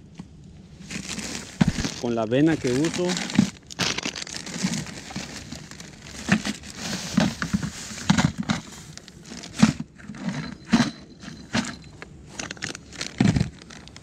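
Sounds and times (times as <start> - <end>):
plastic bags rustling: 0.7 - 14.0.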